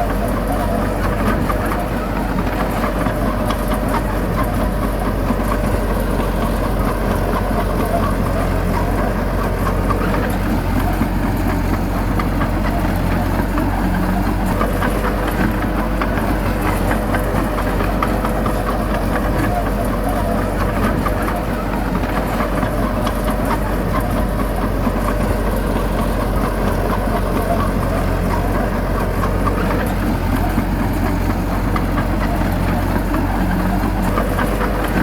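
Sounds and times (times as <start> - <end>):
diesel earthmoving engine droning: 0.0 - 35.0.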